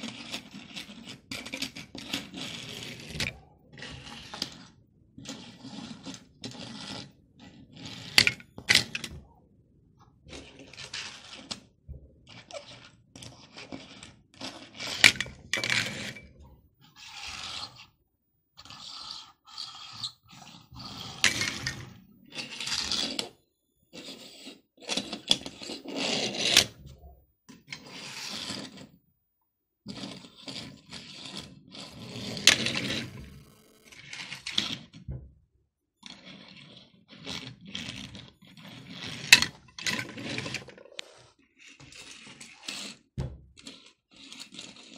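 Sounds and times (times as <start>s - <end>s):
toy cars rolling on table: 0.1s - 9.2s, 12.3s - 17.9s, 18.6s - 29.0s, 29.9s - 35.0s, 36.1s - 44.9s.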